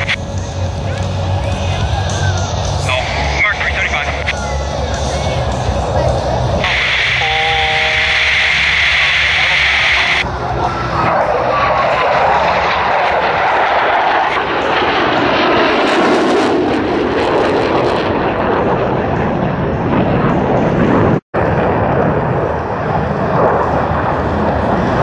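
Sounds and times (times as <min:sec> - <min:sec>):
jets passing overhead: 0:00.0 - 0:25.0.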